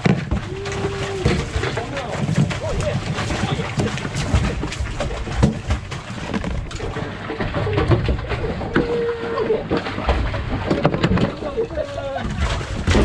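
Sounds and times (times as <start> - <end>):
fish thumping against boat: 0.0 - 13.0
wind and water rumble: 0.0 - 13.0.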